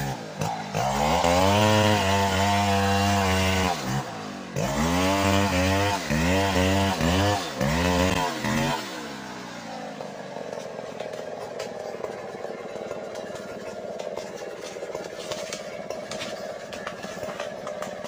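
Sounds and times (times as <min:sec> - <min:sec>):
chainsaw engine revving and idling: 0:00.0 - 0:18.0.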